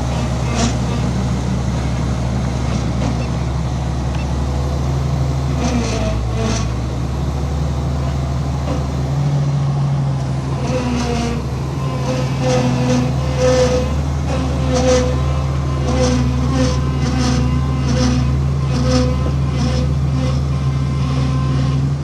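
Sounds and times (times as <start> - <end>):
diesel engine droning under load: 0.0 - 22.0.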